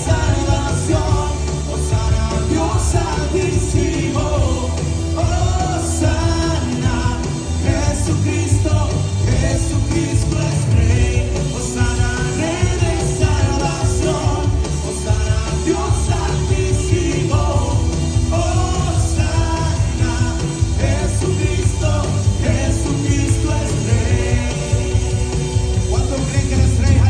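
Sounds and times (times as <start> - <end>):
band with heavy bass: 0.0 - 27.0
people singing worship song: 0.0 - 27.0.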